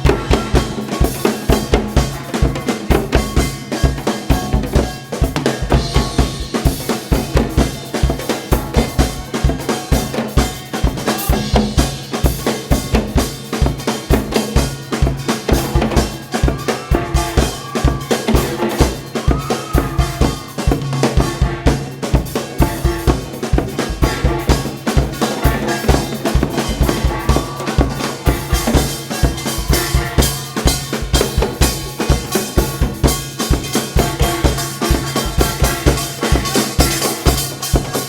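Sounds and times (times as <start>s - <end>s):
drum kit beat: 0.0s - 38.0s.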